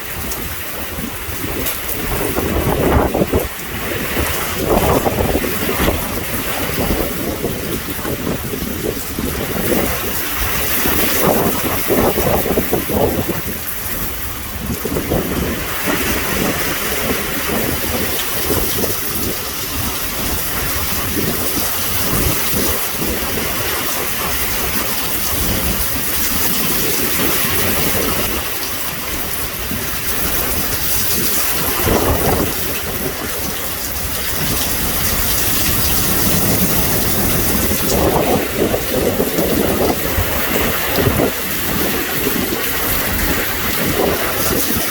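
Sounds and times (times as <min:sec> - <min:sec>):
extremely heavy rain pouring: 0:00.0 - 0:44.9
strong wind: 0:00.0 - 0:44.9.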